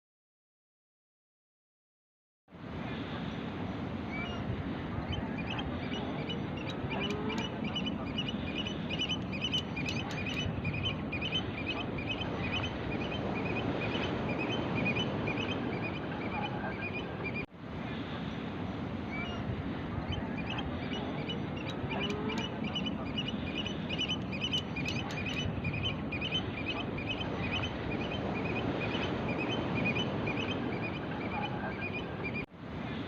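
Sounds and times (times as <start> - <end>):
birds calling: 4.1 - 17.5, 18.2 - 32.4.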